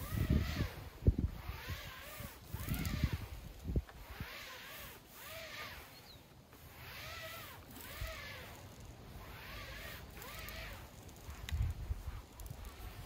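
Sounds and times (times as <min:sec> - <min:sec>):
pad rubbing awning fabric: 0:00.0 - 0:13.0
squeaky swishing strokes: 0:00.0 - 0:13.0.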